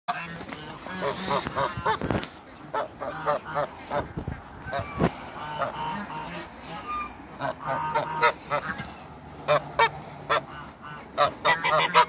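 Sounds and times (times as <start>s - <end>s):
geese honking: 0.1s - 12.0s.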